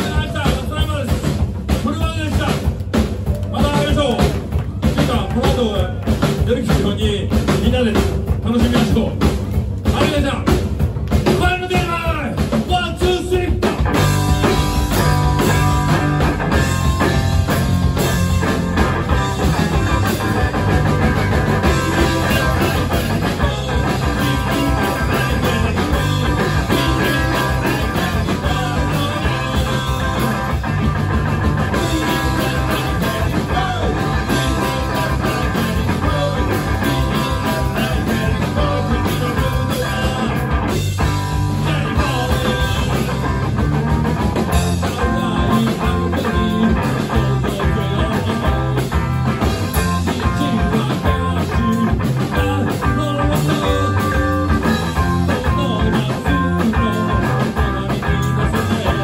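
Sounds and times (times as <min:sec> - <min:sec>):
rock music: 0:00.0 - 0:59.0.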